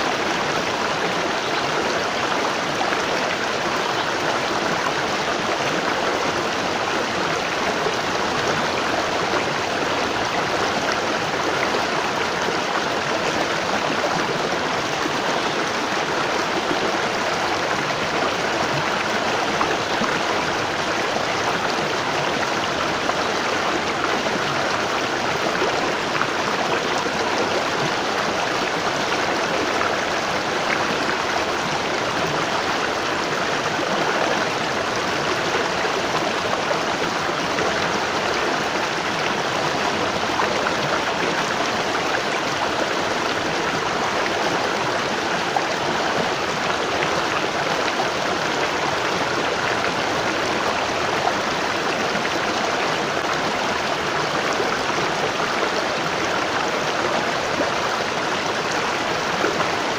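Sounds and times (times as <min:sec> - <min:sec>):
waterfall rushing and splashing: 0:00.0 - 0:59.9.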